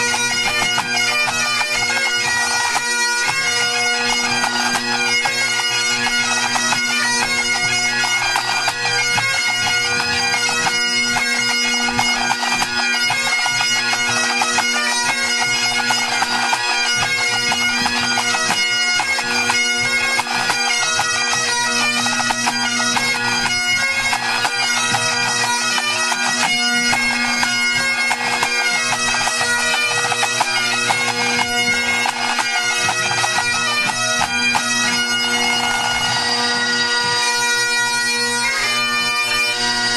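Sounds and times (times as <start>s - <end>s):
bagpipe band playing: 0.0s - 39.9s.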